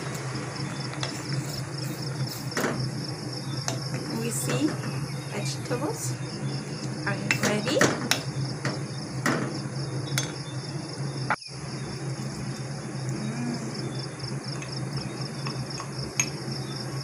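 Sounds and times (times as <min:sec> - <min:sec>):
insects chirring: 0:00.0 - 0:17.0
low steady hum: 0:00.0 - 0:17.0.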